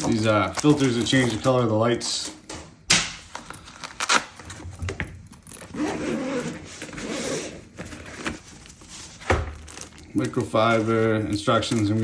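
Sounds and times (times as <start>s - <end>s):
packaging rustling and sliding: 0.0s - 2.2s, 3.3s - 12.0s.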